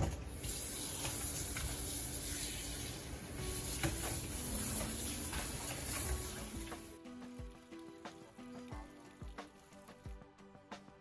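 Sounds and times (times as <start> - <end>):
faucet water running into sink: 0.0 - 10.1.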